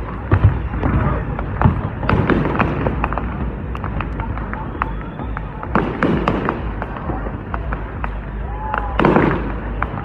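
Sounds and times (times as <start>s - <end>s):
booming firework shells: 0.0s - 10.0s
firework crackles and pops: 0.0s - 10.0s.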